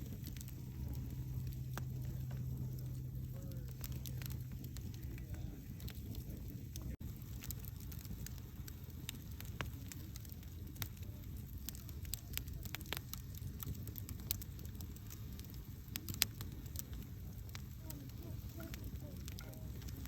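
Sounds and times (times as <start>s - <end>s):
campfire flames rumbling: 0.0s - 20.0s
fire crackling and popping: 0.0s - 20.0s.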